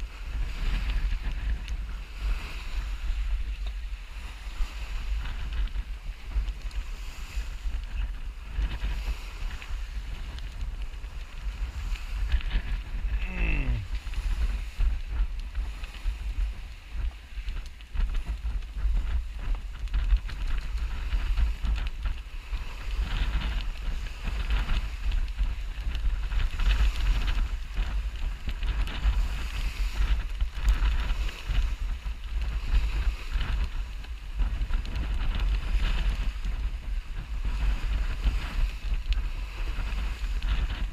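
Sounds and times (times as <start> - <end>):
water rushing along hull: 0.0 - 40.9
wind buffeting microphone: 0.0 - 40.9.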